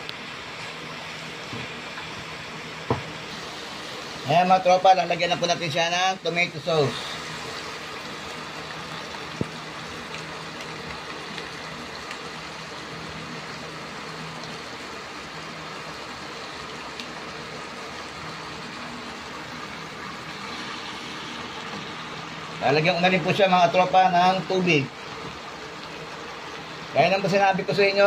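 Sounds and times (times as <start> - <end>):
chicken sizzling in a pot: 0.0 - 22.8.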